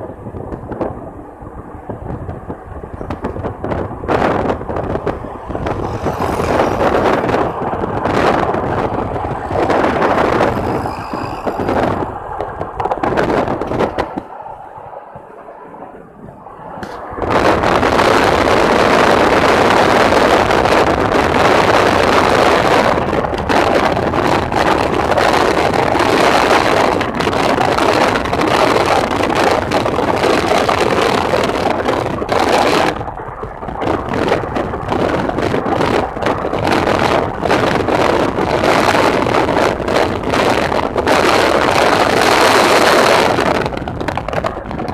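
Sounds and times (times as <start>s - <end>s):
road noise: 0.0s - 44.9s
wind buffeting microphone: 0.0s - 44.9s.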